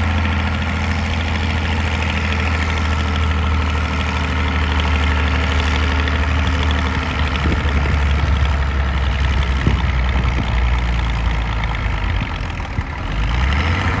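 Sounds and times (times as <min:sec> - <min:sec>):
tractor engine labouring: 0:00.0 - 0:14.0.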